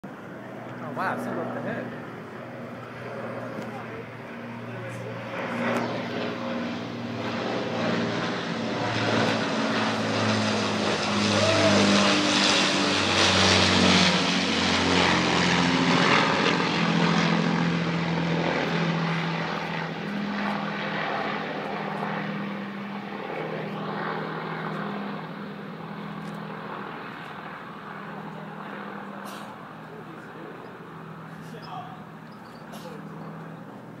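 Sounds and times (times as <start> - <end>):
propeller aircraft engines droning: 0.0 - 34.0.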